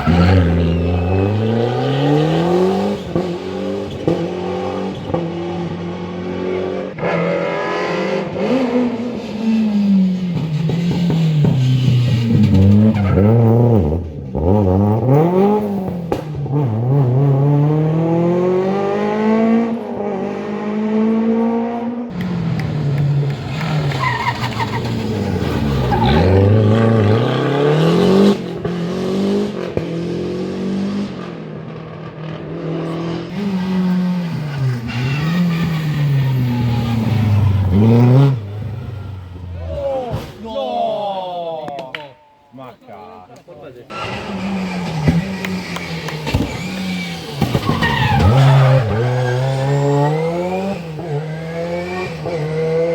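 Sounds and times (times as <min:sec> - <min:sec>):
rally car engines revving hard: 0:00.0 - 0:40.4, 0:43.9 - 0:52.9.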